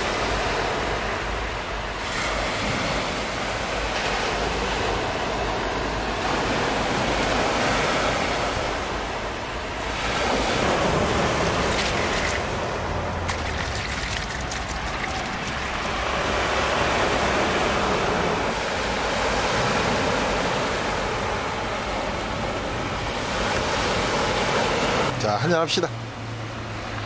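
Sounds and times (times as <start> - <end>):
sea surf washing ashore: 0.0 - 27.0.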